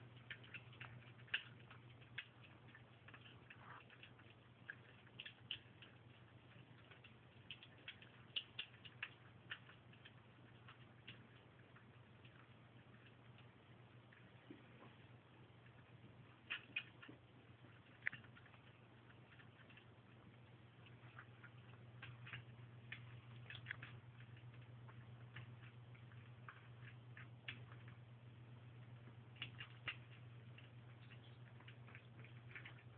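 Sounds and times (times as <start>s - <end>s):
kittens chewing and licking food: 0.0s - 32.9s
steady low hum: 0.0s - 32.9s.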